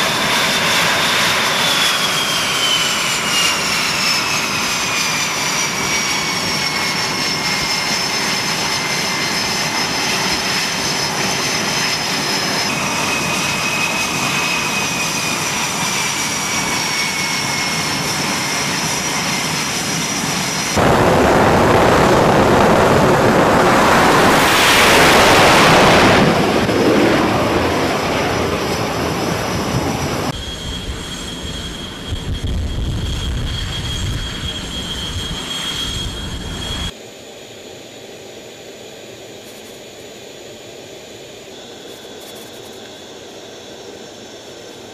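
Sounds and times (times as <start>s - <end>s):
loud jet roar: 0.0s - 37.0s
jet engines whining: 0.0s - 44.9s.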